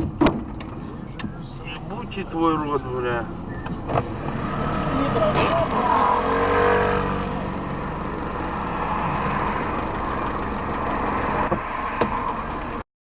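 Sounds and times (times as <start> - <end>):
car driving road noise: 0.0 - 12.8.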